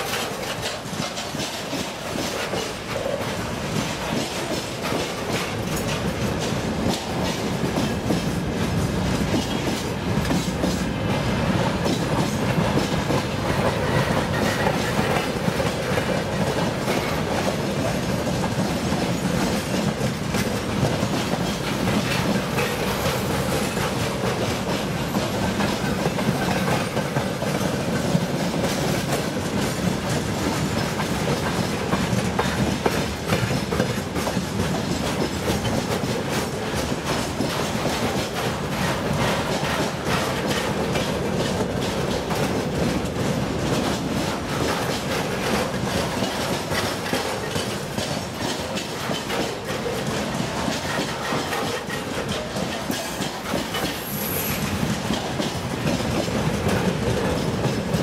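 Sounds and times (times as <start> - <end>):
freight train rumbling past: 0.0 - 58.0
wheels clattering over rail joints: 0.0 - 58.0.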